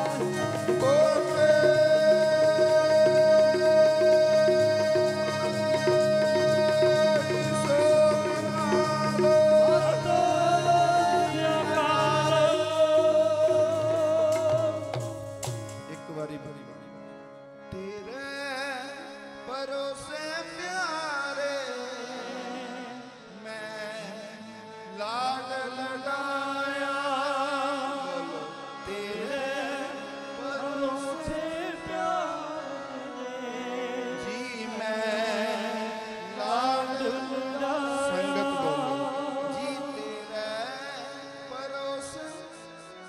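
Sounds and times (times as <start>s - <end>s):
man singing a hymn: 0.0s - 15.0s, 17.7s - 43.0s
harmonium: 0.0s - 43.0s.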